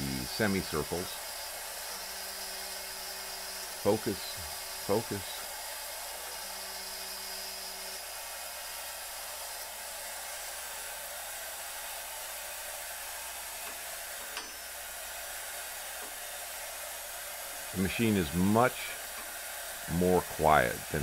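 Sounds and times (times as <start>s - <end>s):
router spindle cutting metal: 0.0s - 21.0s.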